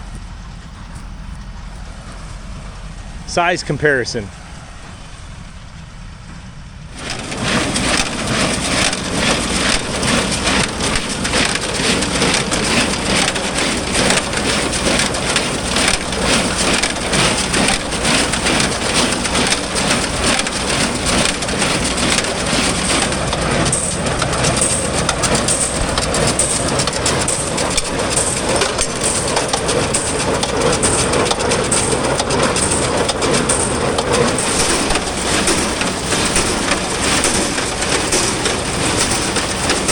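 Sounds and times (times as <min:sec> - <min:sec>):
hay baler clattering: 0:00.0 - 0:39.9.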